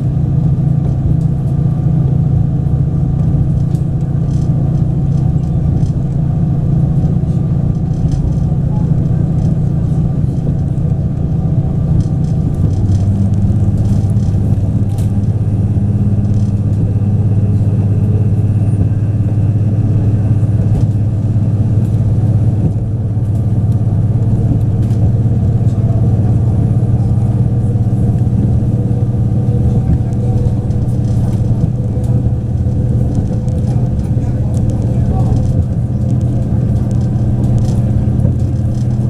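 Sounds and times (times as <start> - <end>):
diesel train engine droning: 0.0 - 39.0
wheels rumbling on rail: 0.0 - 39.0.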